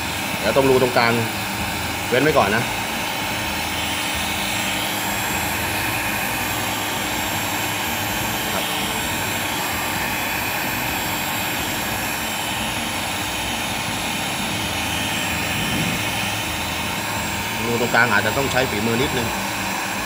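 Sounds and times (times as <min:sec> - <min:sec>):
heat gun blowing hot air: 0:00.0 - 0:20.0.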